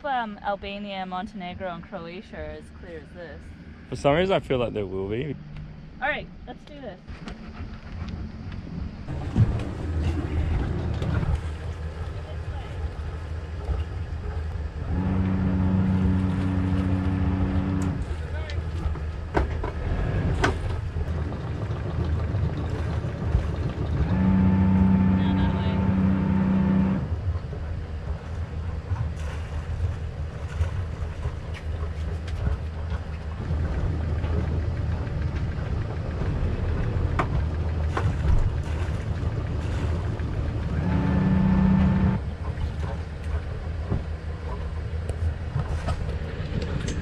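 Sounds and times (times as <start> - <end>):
diesel engine idling: 0.0 - 47.0
anchor windlass whirring: 7.0 - 47.0.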